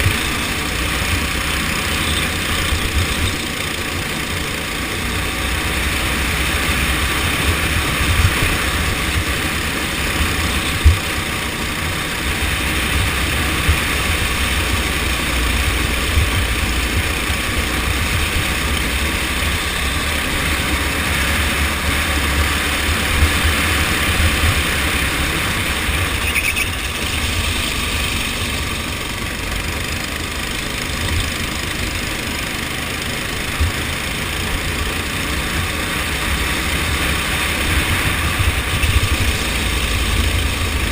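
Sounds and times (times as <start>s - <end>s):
go-kart engine running: 0.0s - 40.9s.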